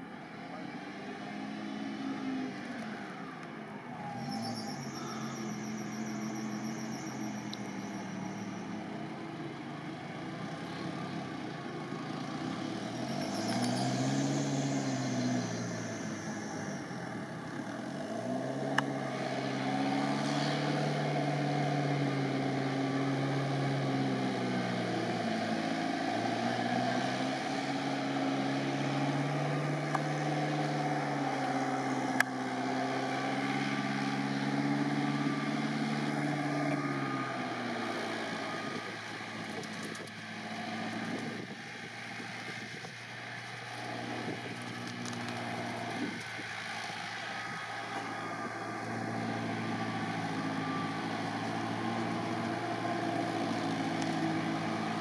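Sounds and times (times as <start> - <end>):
engine revving: 0.0 - 55.0.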